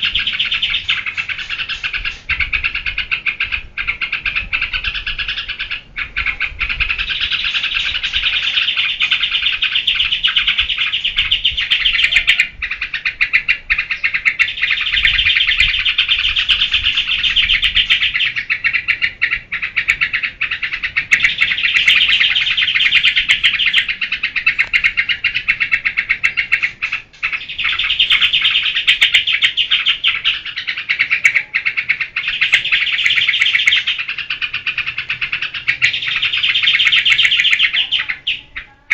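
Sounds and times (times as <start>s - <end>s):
bulbul singing fast chattering song: 0.0s - 38.9s.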